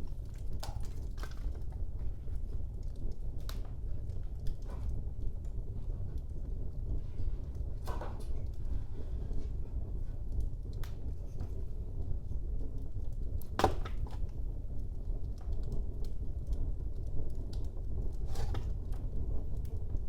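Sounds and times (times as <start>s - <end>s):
fire crackles and pops: 0.0s - 20.0s
low rumble of flames: 0.0s - 20.0s.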